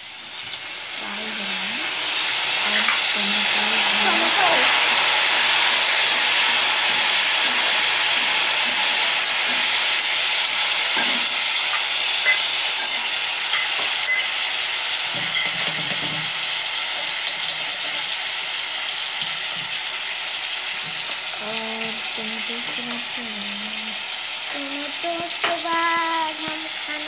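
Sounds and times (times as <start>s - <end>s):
masala sizzling in a pan: 0.0s - 27.0s.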